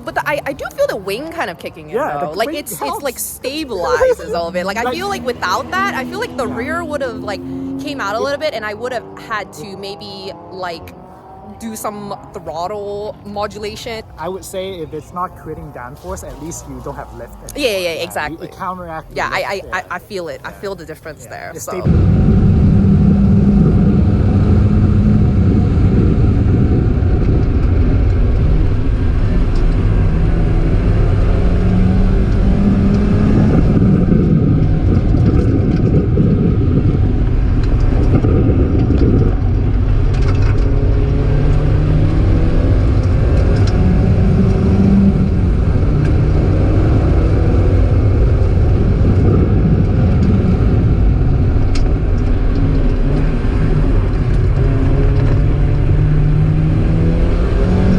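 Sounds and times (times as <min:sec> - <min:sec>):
car engine revving at full throttle: 0:00.0 - 0:57.9
road and tyre noise: 0:00.0 - 0:57.9.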